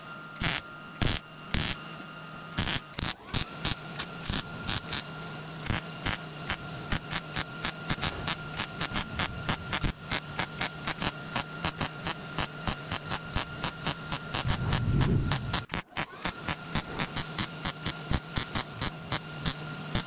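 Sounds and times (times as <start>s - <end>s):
steady low hum: 0.0s - 20.0s
welding arc crackling and popping: 0.4s - 1.8s, 2.6s - 20.0s.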